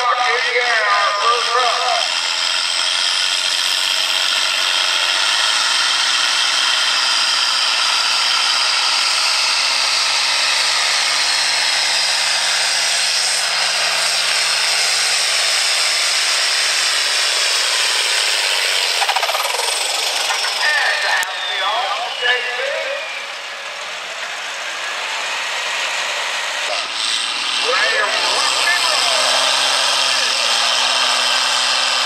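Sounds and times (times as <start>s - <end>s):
diesel tractor engine under load: 0.0s - 32.0s
high-pitched turbo whine: 0.0s - 32.0s.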